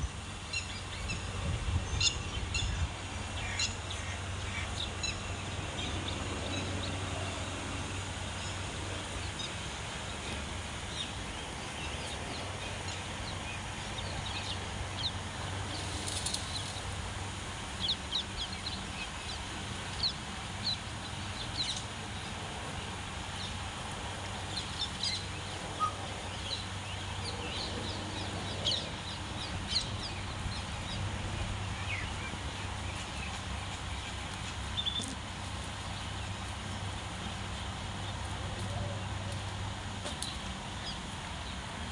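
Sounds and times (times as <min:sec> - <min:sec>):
birds chirping: 0:00.0 - 0:17.0, 0:24.3 - 0:41.9.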